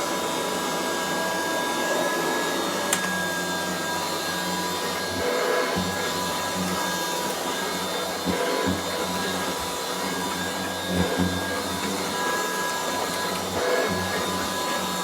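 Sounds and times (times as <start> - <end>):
upright vacuum motor whine: 0.0 - 15.0.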